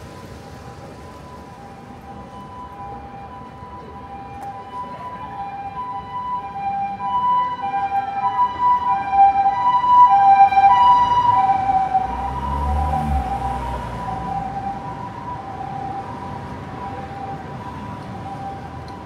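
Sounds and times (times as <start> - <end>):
two-tone ambulance siren: 0.0 - 19.0.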